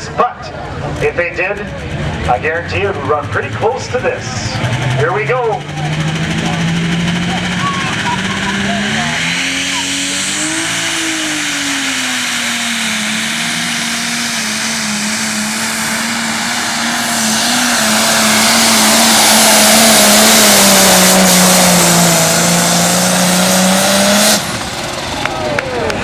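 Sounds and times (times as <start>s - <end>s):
diesel tractor engine at full throttle: 0.0s - 26.0s.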